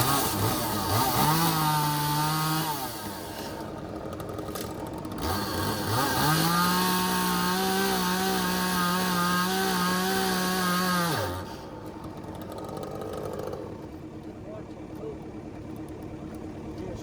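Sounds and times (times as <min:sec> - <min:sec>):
chainsaw revving: 0:00.0 - 0:14.3.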